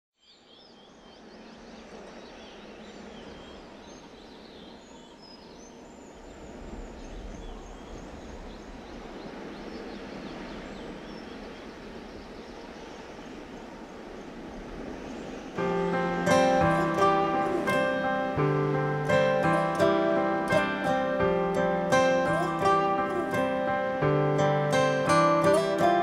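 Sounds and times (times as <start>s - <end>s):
small birds chirping: 0.2s - 26.0s
steady background hiss: 0.2s - 26.0s.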